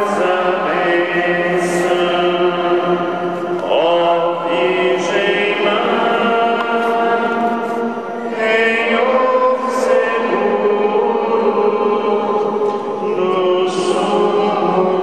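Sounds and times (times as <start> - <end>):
choir chanting: 0.0 - 15.0.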